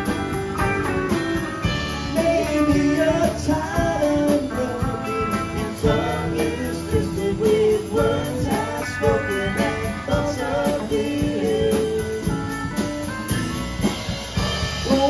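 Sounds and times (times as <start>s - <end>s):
drum hits: 0.0s - 15.0s
rock band playing: 0.0s - 15.0s.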